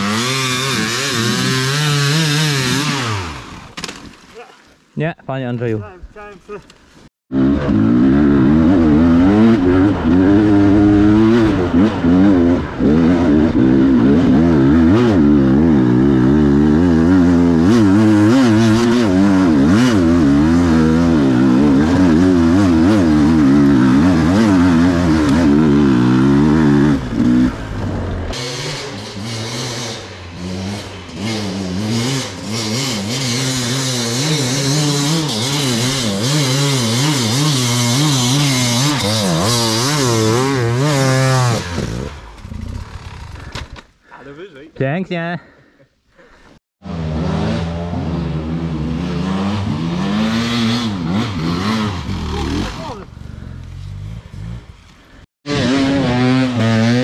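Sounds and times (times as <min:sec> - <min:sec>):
motorcycle engine revving: 0:00.0 - 0:03.8, 0:07.3 - 0:43.8, 0:46.8 - 0:57.0.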